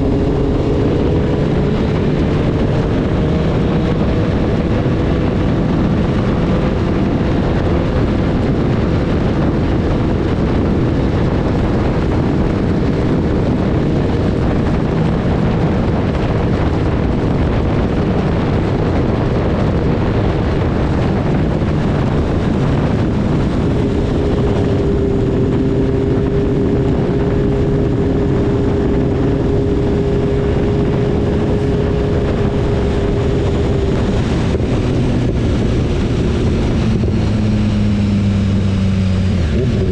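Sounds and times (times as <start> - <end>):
motorcycle engine: 0.0 - 39.9
wind on microphone: 0.0 - 39.9.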